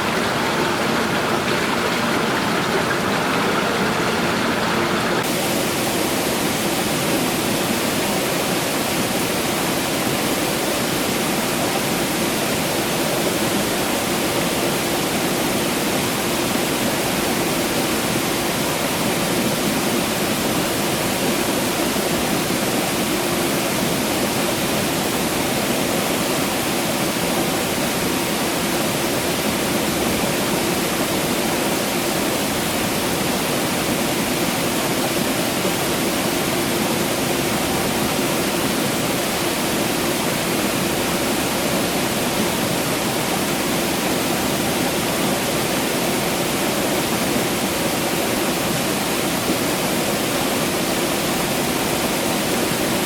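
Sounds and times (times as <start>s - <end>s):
water rushing and falling: 0.0s - 53.0s.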